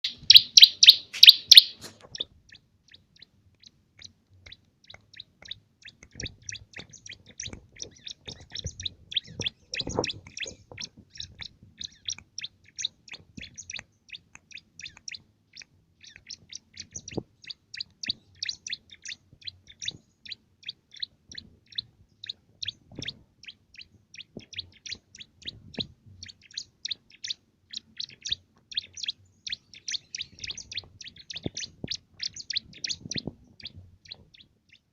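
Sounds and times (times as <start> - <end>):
bird singing high chirps: 0.0 - 34.9.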